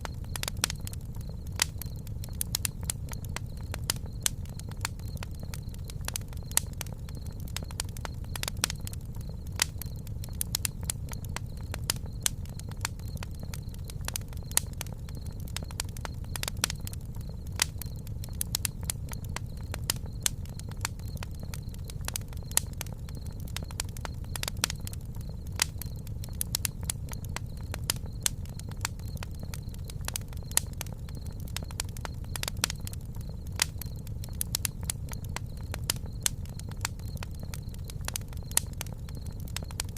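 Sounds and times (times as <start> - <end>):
burning wood crackling and popping: 0.0 - 39.9
campfire flame rumble: 0.0 - 39.9.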